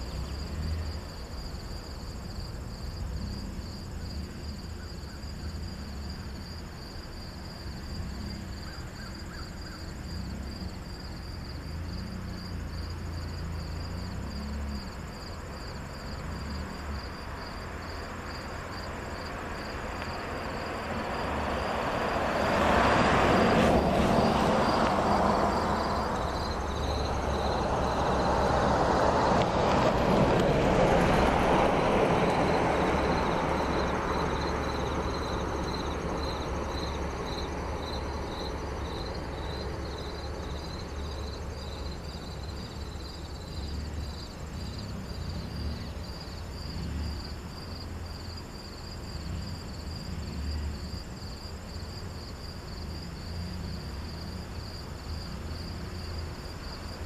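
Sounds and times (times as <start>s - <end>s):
car driving away: 0.0s - 57.0s
insects chirping: 0.0s - 57.0s.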